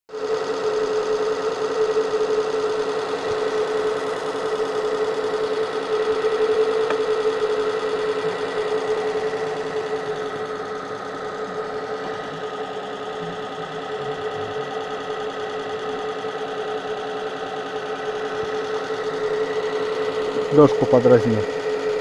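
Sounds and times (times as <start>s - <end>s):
electric motor whine: 0.1s - 22.0s.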